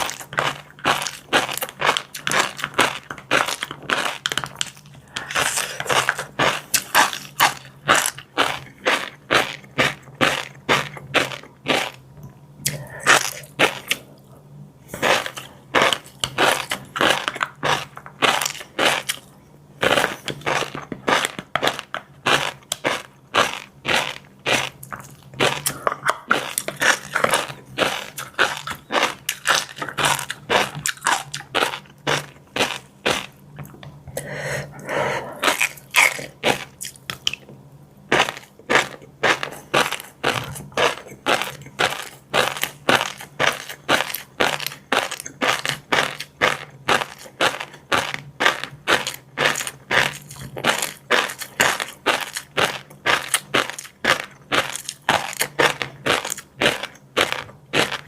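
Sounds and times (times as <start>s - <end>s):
crunchy chewing: 0.0s - 12.0s, 12.6s - 33.9s, 35.3s - 37.5s, 38.1s - 58.0s.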